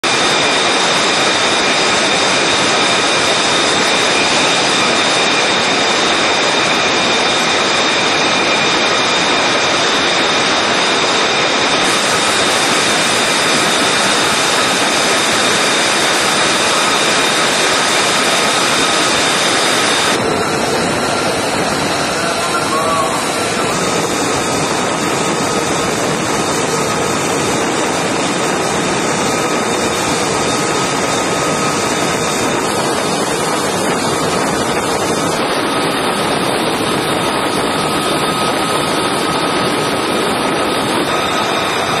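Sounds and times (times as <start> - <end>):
jet engine roaring with whine: 0.0 - 42.0.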